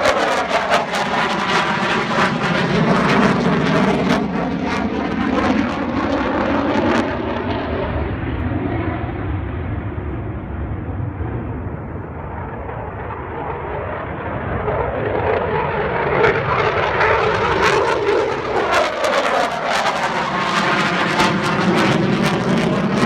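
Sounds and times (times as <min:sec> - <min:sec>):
fighter jet flying past: 0:00.0 - 0:23.0
jet engine crackling: 0:00.0 - 0:23.0.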